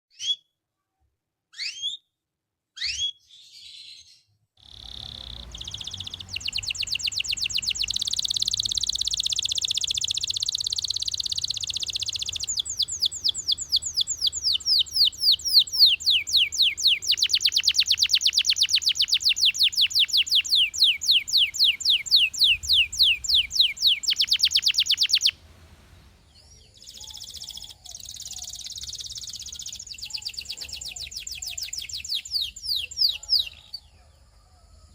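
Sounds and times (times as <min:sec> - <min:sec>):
canary chirps: 0:00.1 - 0:00.5, 0:01.5 - 0:02.1, 0:02.8 - 0:34.4
canary singing trills: 0:02.8 - 0:34.3.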